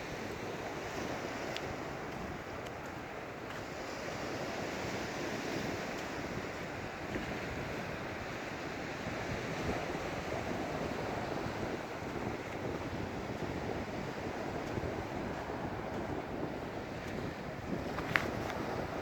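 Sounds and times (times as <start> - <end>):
surf washing onto beach: 0.0 - 19.0
wind on microphone: 0.0 - 19.0.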